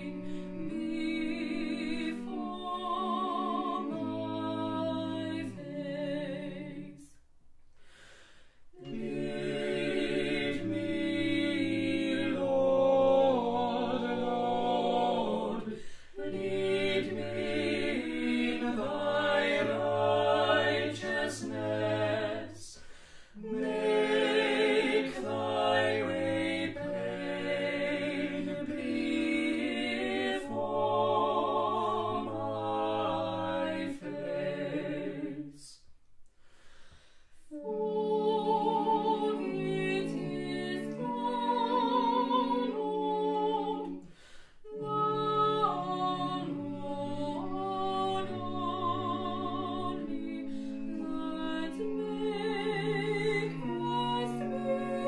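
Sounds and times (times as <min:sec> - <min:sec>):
vocal ensemble singing a cappella: 0:00.0 - 0:55.0.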